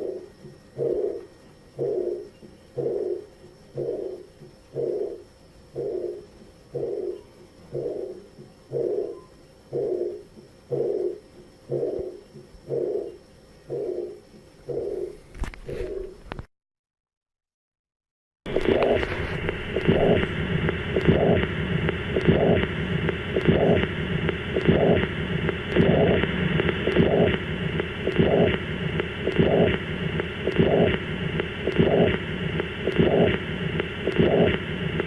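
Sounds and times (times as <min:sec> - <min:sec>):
heartbeat pulsing through stethoscope: 0:00.0 - 0:16.2, 0:18.5 - 0:35.0.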